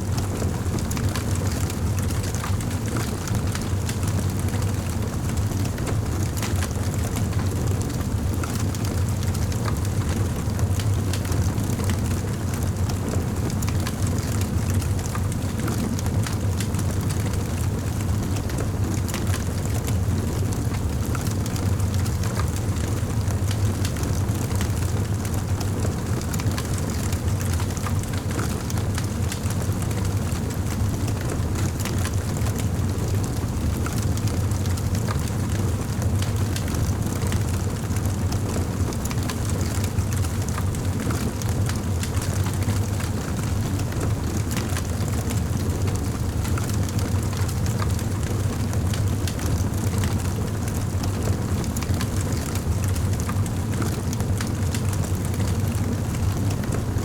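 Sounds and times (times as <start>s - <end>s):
low fire rumble: 0.0s - 57.0s.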